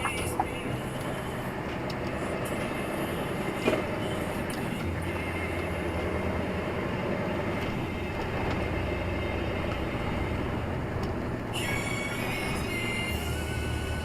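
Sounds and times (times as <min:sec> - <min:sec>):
heavy vehicle engine running: 0:00.0 - 0:14.0
road rumble: 0:00.0 - 0:14.0.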